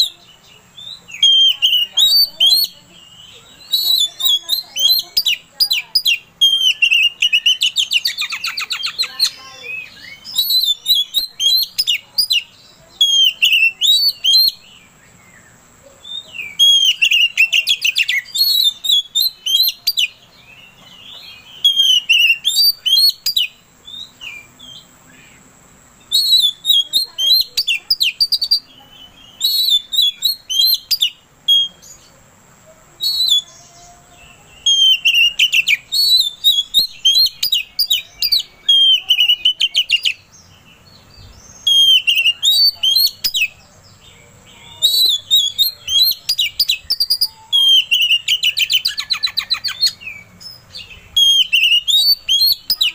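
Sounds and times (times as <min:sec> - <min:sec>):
bird singing whistles and chatter: 0:00.0 - 0:32.2, 0:32.8 - 0:52.9.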